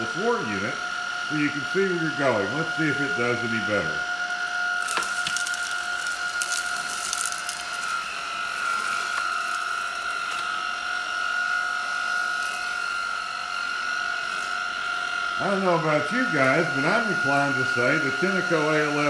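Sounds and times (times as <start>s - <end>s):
vacuum cleaner whining: 0.0s - 19.0s.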